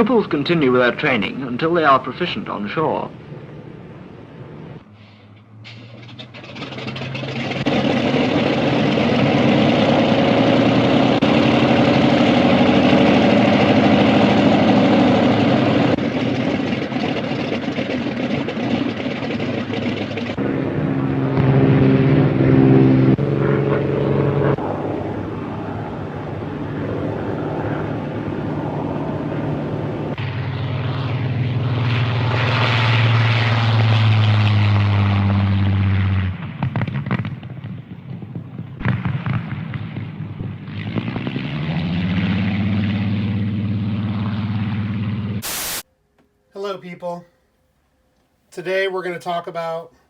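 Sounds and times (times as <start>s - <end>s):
propeller aircraft engine: 0.0s - 45.8s.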